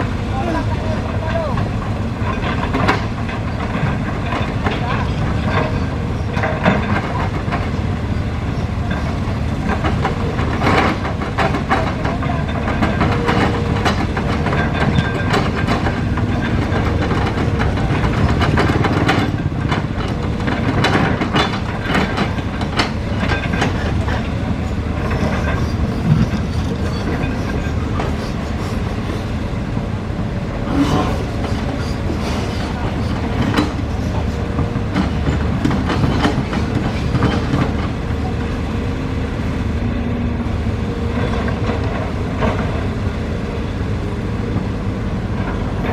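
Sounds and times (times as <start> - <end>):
diesel engine rumble: 0.0 - 45.9
metal clanks and clatters: 0.4 - 29.8, 30.6 - 38.4.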